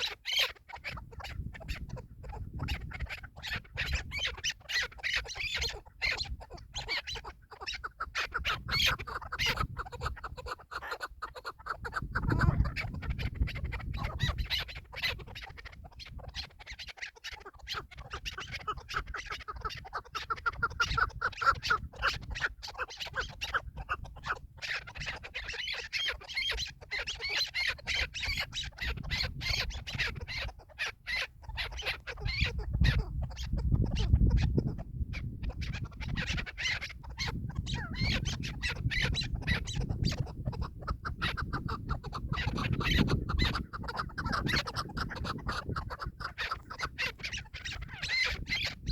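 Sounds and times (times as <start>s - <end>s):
partridges chattering calls: 0.0s - 48.9s
wind rumble on microphone: 0.7s - 10.6s, 11.2s - 16.7s, 17.6s - 25.8s, 26.4s - 30.7s, 31.3s - 48.9s.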